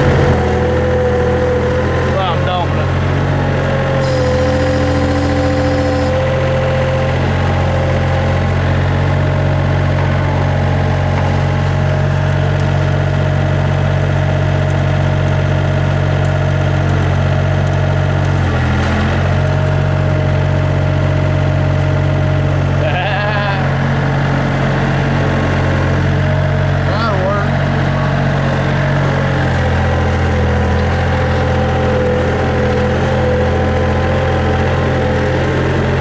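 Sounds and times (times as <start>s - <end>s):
skid steer engine running: 0.0s - 36.0s.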